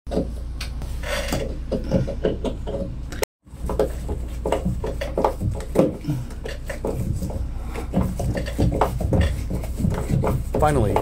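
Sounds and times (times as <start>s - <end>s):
handling knocks and rubbing: 0.1s - 11.0s
steady low hum: 0.2s - 11.0s.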